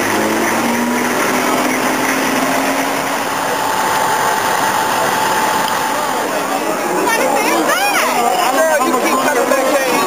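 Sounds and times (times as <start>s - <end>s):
diesel engine running: 0.0s - 10.0s
street noise: 0.0s - 10.0s.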